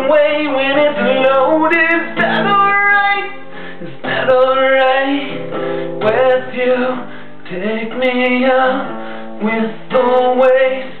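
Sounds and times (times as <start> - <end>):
classical guitar: 0.0 - 11.0
man singing: 0.0 - 11.0.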